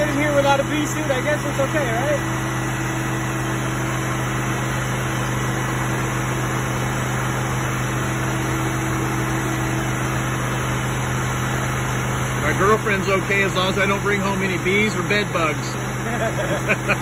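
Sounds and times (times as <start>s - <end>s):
vacuum motor humming: 0.0s - 17.0s.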